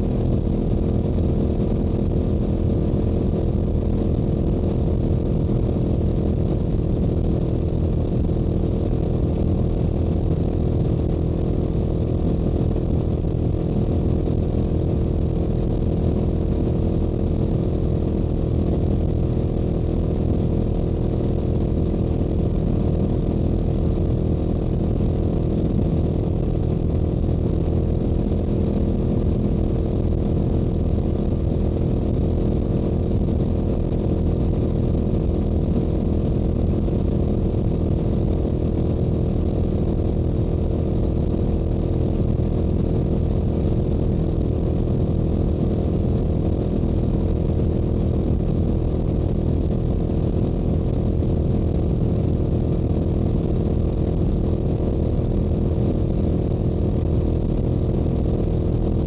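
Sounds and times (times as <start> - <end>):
motorcycle exhaust at cruising speed: 0.0 - 59.0.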